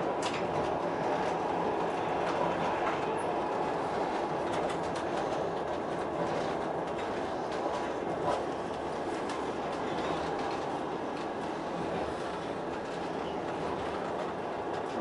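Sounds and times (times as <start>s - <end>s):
rail joint clicks: 0.0s - 15.0s
train wheels rumbling on rails: 0.0s - 15.0s.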